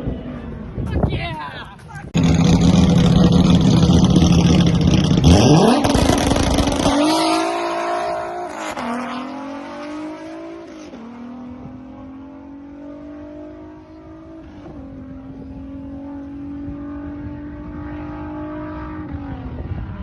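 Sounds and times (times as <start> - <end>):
drag car engine revving: 2.2 - 20.0.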